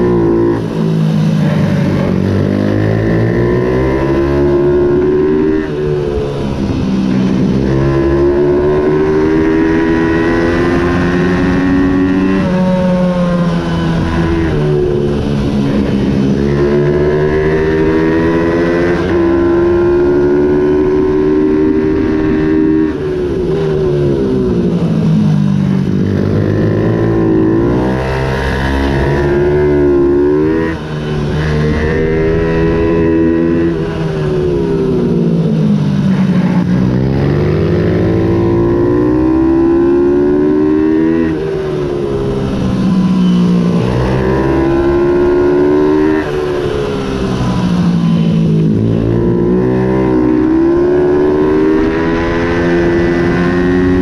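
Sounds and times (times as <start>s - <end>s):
minibike engine at racing speed: 0.0s - 54.0s.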